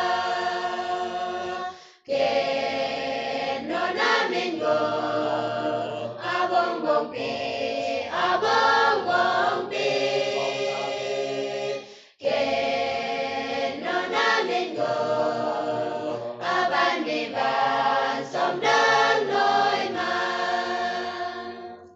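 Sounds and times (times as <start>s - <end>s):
choir singing a hymn: 0.0s - 21.9s.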